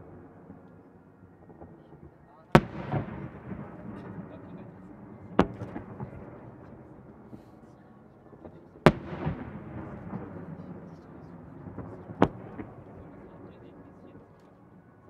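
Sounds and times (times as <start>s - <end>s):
fireworks bangs with echo: 0.0s - 7.7s, 8.3s - 14.0s.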